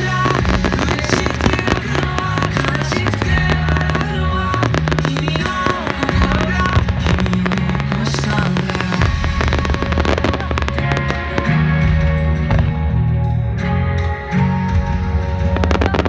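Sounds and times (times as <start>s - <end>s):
background music with bass: 0.0s - 16.0s
fireworks bursting and crackling: 0.0s - 16.0s.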